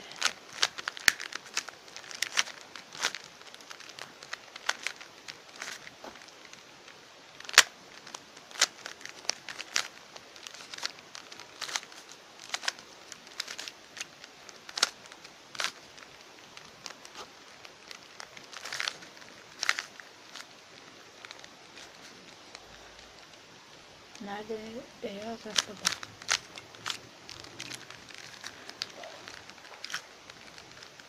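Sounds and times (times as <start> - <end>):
plastic puzzle cube clicking: 0.1 - 6.7, 7.3 - 23.4, 25.1 - 31.0.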